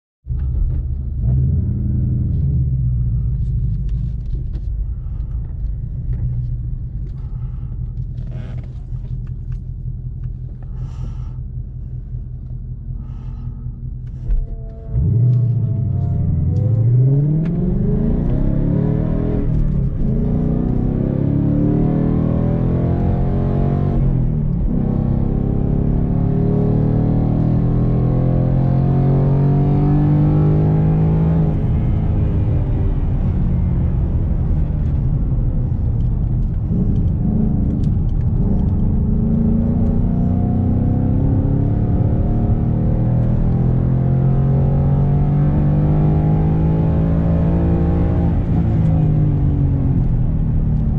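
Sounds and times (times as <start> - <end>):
car engine accelerating: 0.3 - 50.9.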